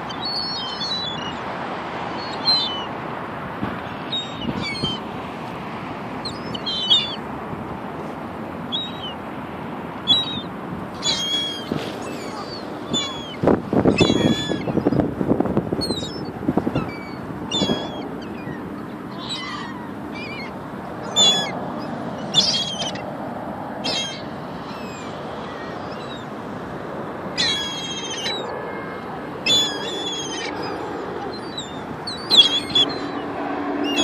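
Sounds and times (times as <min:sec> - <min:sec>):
gulls calling: 0:00.0 - 0:34.0
steady background noise: 0:00.0 - 0:34.0.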